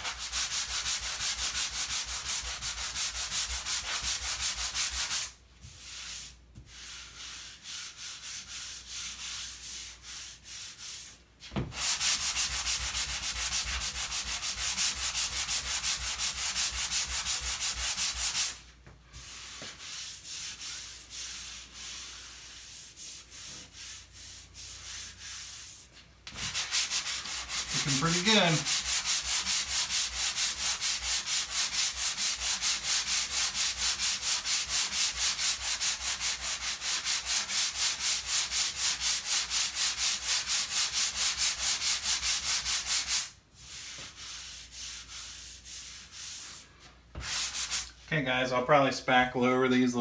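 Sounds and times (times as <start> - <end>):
sanding sponge scraping drywall: 0.0 - 48.0.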